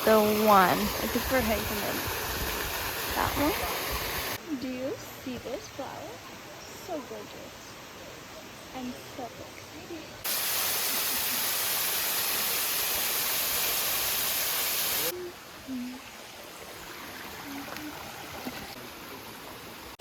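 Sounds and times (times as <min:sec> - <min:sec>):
rushing water: 0:00.0 - 0:04.4, 0:05.6 - 0:20.0
forest ambience: 0:00.0 - 0:20.0.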